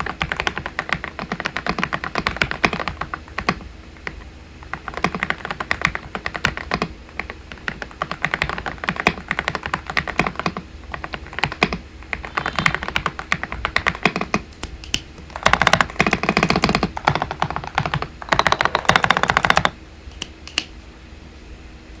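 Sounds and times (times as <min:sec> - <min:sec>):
typing on mechanical keyboard: 0:00.0 - 0:20.7.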